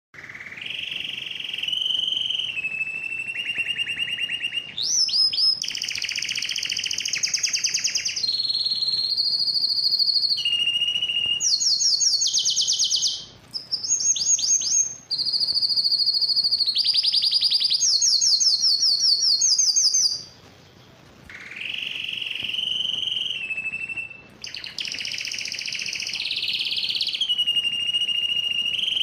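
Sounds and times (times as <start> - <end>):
canary singing trills: 0.2 - 29.0.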